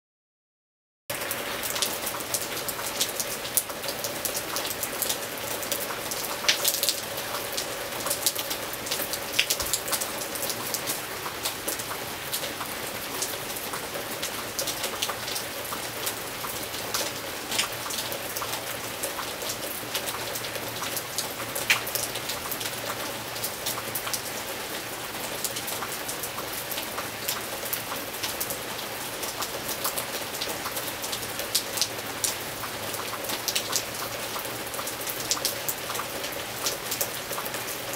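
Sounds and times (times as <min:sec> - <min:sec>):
raindrops ticking: 0:01.1 - 0:24.4, 0:25.2 - 0:37.9
gentle rain hiss: 0:01.1 - 0:37.9.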